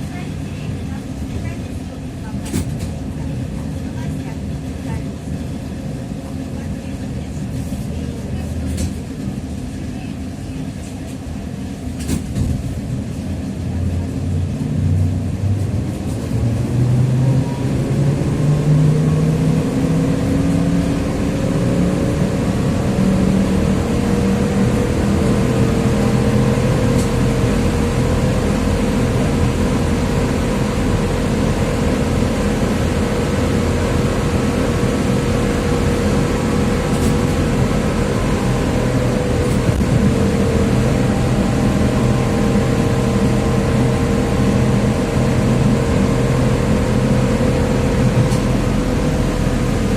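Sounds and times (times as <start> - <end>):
trolleybus gear whine: 0.0 - 49.9.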